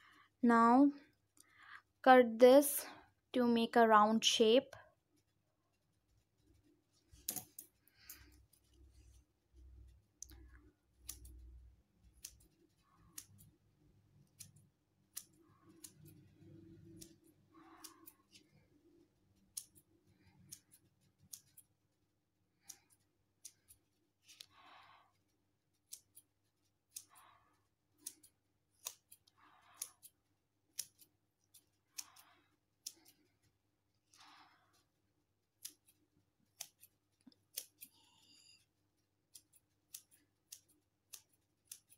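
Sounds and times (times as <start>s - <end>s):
scissors snipping foam: 6.6s - 41.9s.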